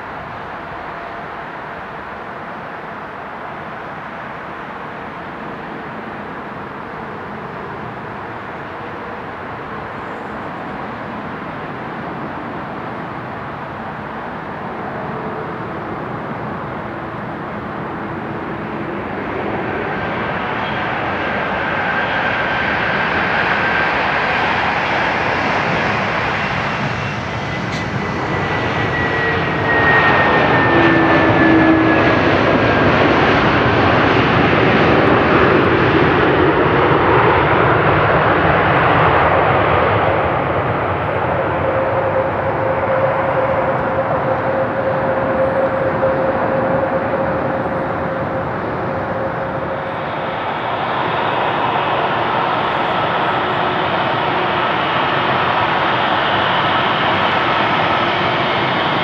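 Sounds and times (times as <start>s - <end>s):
jet engines passing: 0.0s - 59.0s.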